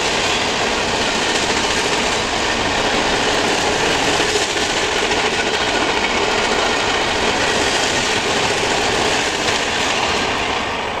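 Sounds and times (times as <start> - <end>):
steel wheels on rail: 0.0 - 11.0.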